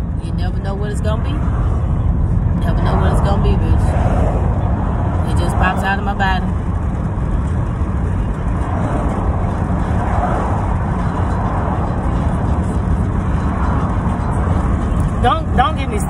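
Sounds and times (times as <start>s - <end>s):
road and engine rumble inside car: 0.0s - 16.0s.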